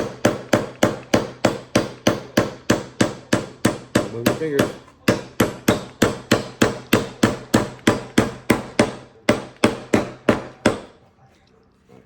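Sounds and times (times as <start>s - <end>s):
hammer striking nail into wood: 0.0s - 11.0s.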